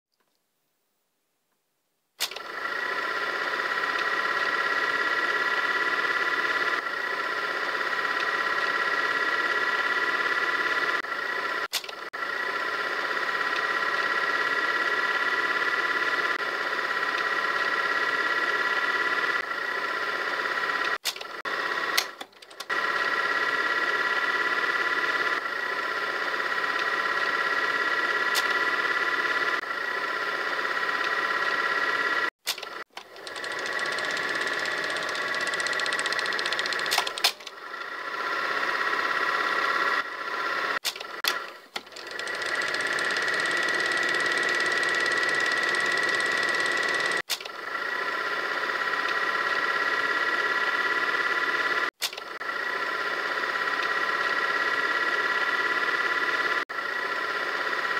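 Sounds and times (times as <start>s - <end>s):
film projector flutter: 2.2s - 57.9s.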